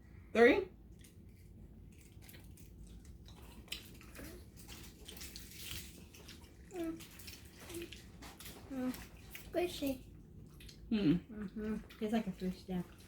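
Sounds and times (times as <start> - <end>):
wet chewing of gummy candies: 0.8 - 13.0.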